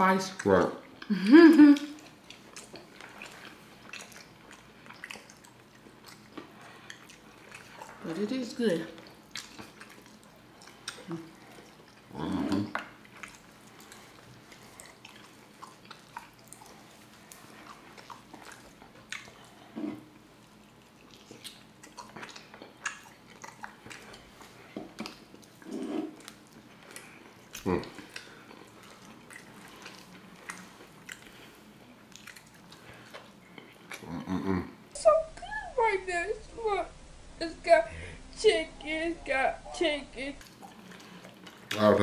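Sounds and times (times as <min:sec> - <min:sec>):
chewing and lip-smacking: 0:00.2 - 0:35.0, 0:40.4 - 0:42.0.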